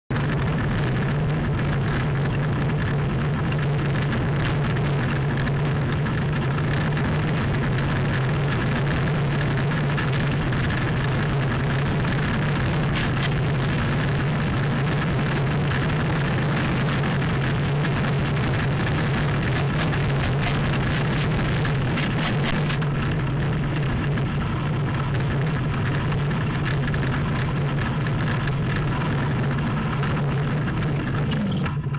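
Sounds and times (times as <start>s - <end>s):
fine rattling and crackle: 0.1s - 31.9s
wheels rolling hum: 0.1s - 31.9s.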